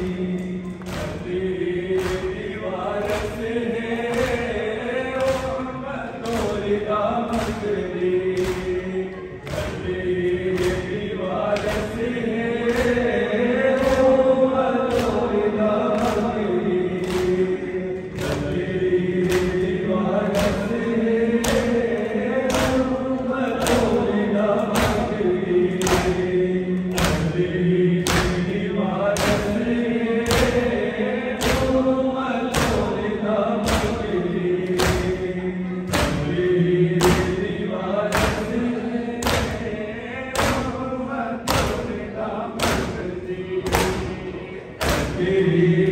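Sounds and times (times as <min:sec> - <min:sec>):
mourners chanting in unison: 0:00.0 - 0:45.9
hands slapping chests: 0:00.3 - 0:20.8, 0:21.4 - 0:33.0, 0:33.6 - 0:40.8, 0:41.4 - 0:42.0, 0:42.6 - 0:44.2, 0:44.8 - 0:45.4.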